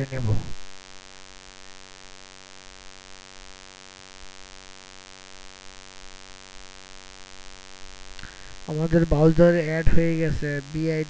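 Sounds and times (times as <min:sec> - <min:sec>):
electrical mains hum: 0:00.0 - 0:11.0
microphone hiss: 0:00.0 - 0:11.0.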